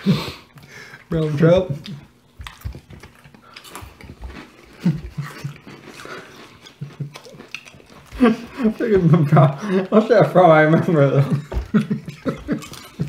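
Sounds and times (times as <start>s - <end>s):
people chewing crunchy snacks: 0.0s - 13.0s.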